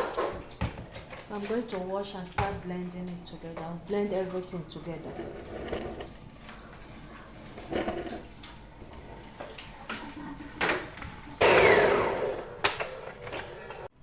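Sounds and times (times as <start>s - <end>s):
dishes and containers clattering: 0.0s - 11.4s.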